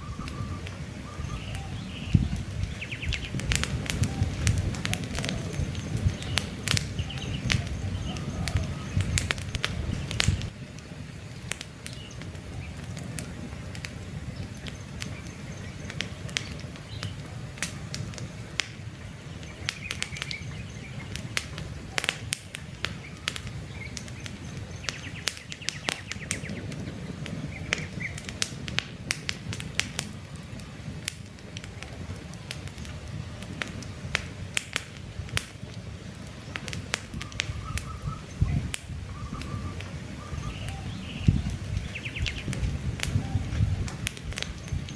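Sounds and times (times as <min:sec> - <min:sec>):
faint birds chirping: 0:00.0 - 0:28.4, 0:35.6 - 0:44.9
campfire crackling and popping: 0:00.0 - 0:44.9
low rumble of burning: 0:00.0 - 0:44.9.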